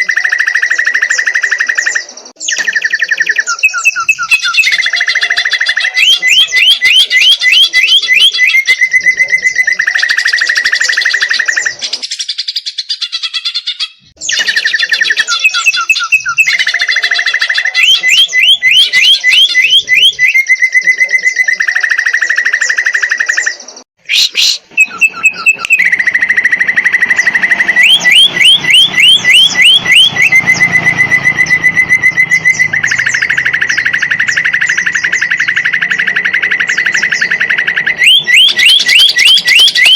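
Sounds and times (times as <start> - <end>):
bird singing trills and chirps: 0.0 - 39.9.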